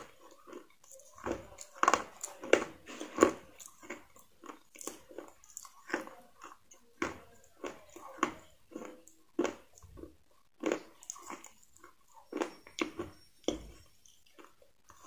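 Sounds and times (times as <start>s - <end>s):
chewing crispy chicken: 0.0s - 15.0s.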